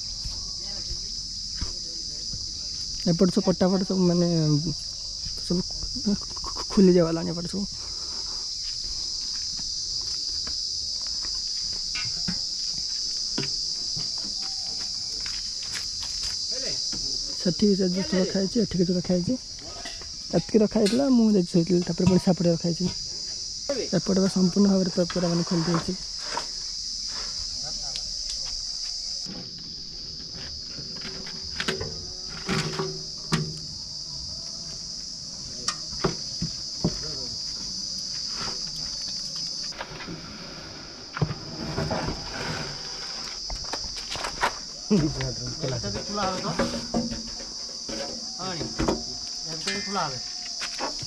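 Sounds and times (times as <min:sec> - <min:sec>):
insects singing drone: 0:00.0 - 0:51.0.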